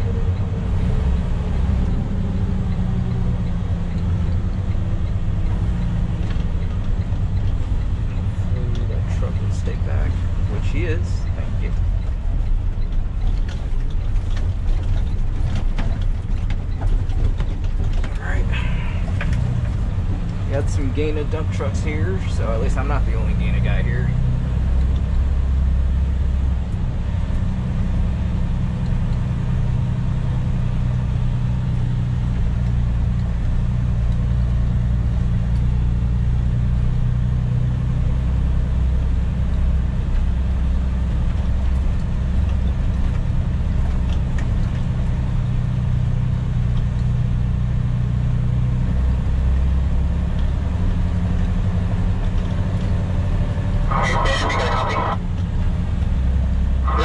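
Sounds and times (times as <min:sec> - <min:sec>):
diesel engine droning: 0:00.0 - 0:57.0
road noise: 0:00.0 - 0:57.0.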